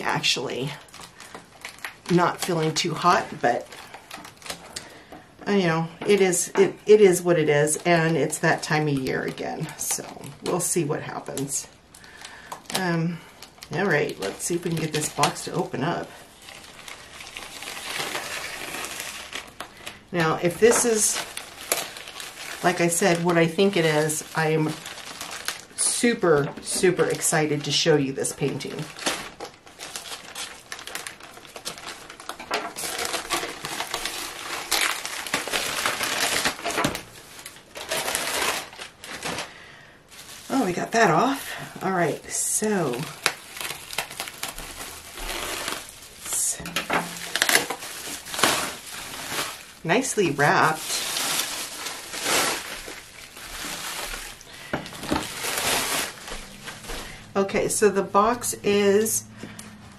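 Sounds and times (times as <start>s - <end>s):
plastic and bubble wrap crinkling: 0.0s - 59.9s.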